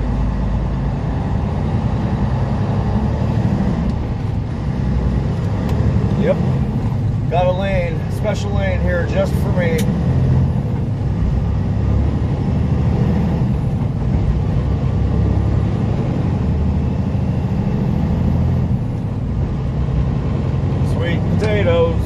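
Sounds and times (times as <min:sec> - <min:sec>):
diesel truck engine rumble: 0:00.0 - 0:22.0
road noise: 0:00.0 - 0:22.0.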